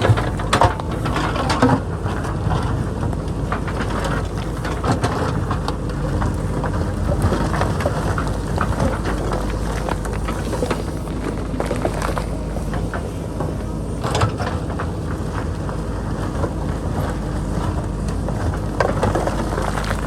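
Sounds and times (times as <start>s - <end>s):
diesel engine running: 0.0s - 20.0s
rock and soil falling: 0.0s - 20.0s.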